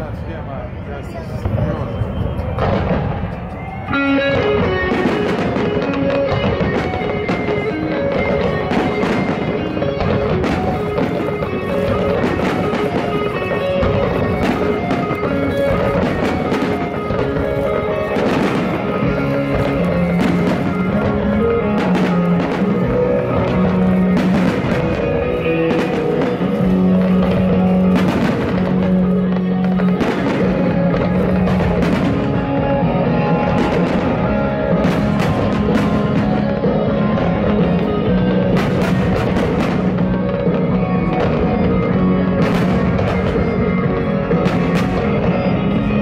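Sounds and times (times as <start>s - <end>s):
fireworks bursting: 0.0s - 46.0s
loud music with bass line: 3.9s - 46.0s.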